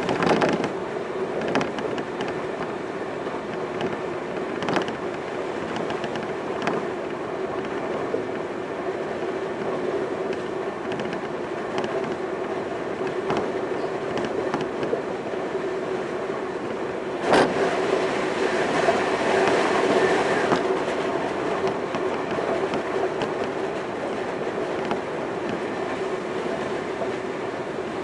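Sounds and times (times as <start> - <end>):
train running noise with hum: 0.0 - 28.0.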